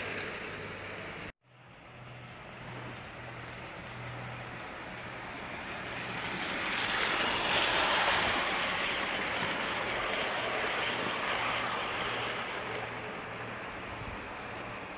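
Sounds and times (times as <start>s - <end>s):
model train whirring rumble: 0.0s - 14.9s
wheels rolling on track: 0.0s - 14.9s.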